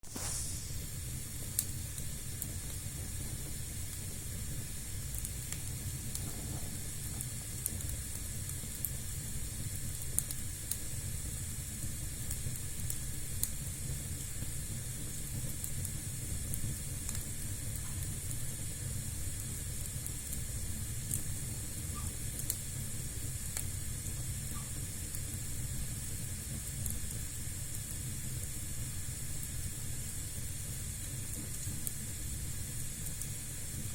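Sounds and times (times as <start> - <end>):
fire crackles: 0.0 - 33.9
fire hissing and rumbling: 0.0 - 33.9.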